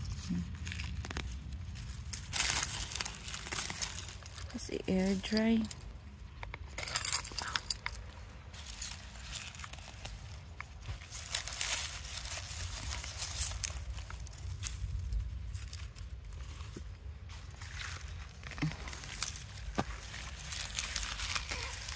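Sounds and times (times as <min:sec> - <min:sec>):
dry leaves and grass rustling: 0:00.0 - 0:21.9.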